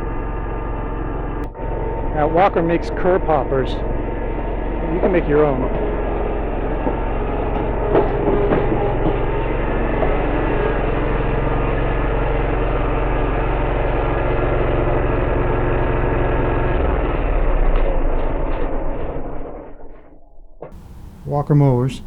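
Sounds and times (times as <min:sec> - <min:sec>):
mower engine running: 0:00.0 - 0:20.1, 0:20.7 - 0:22.0.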